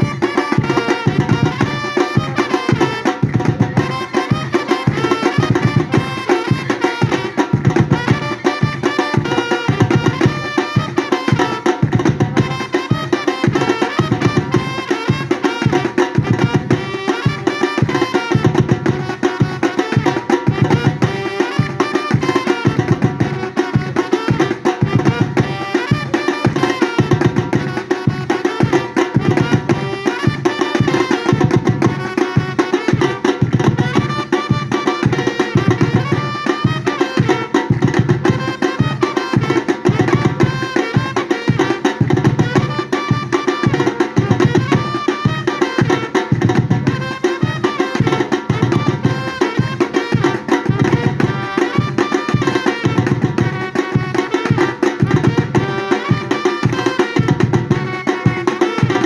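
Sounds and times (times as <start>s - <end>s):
drum ensemble playing fast rhythm: 0.0s - 59.0s.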